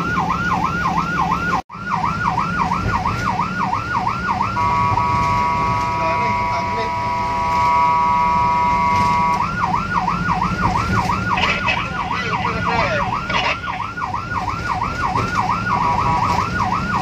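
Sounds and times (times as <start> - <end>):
emergency vehicle siren: 0.0 - 17.0
vehicle engine hum: 0.0 - 17.0.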